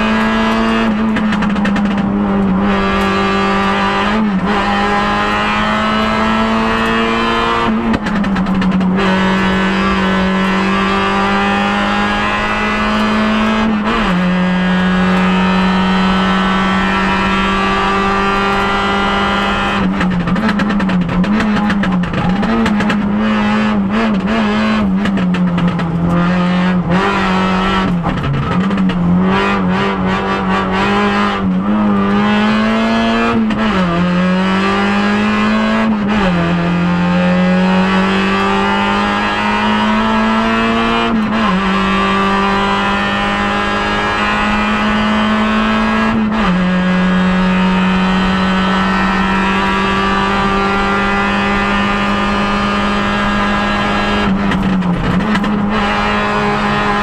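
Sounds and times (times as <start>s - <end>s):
rally car engine revving hard: 0.0s - 57.0s.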